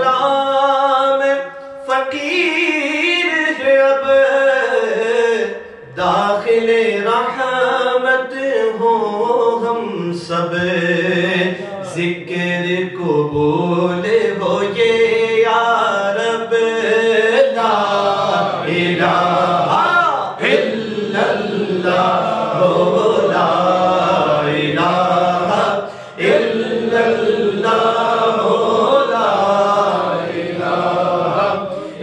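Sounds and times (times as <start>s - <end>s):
man chanting: 0.0s - 32.0s.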